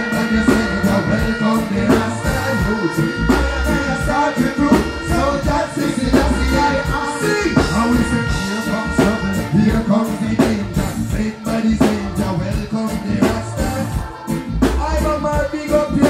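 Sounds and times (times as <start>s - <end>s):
man singing: 0.0s - 16.0s
reggae band playing: 0.0s - 16.0s.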